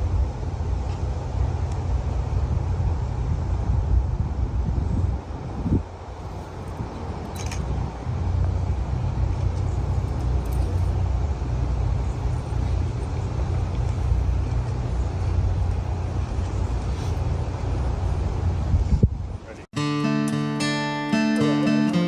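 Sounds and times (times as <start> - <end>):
vehicle engine rumbling: 0.0 - 19.7.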